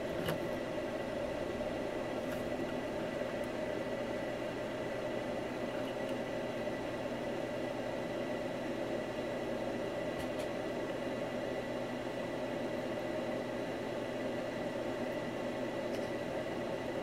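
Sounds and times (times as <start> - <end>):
electric fan whirring: 0.0 - 17.0.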